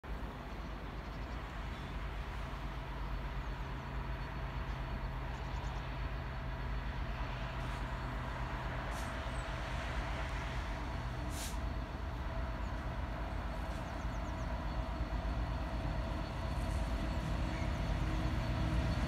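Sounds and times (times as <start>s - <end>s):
distant diesel locomotive droning: 0.1s - 19.0s.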